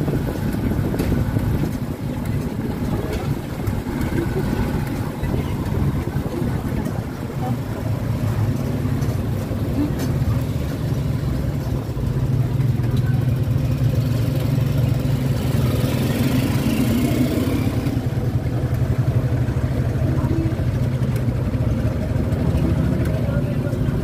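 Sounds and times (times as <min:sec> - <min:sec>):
motorcycle engine running: 0:00.0 - 0:24.0
road noise: 0:00.0 - 0:24.0.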